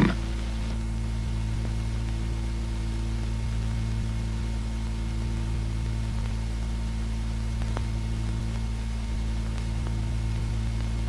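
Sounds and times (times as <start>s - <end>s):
background hiss: 0.0s - 11.0s
low electrical hum: 0.0s - 11.0s.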